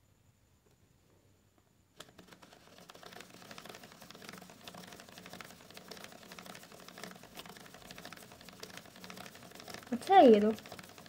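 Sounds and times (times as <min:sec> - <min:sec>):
plastic gear clicking: 0:02.0 - 0:11.0.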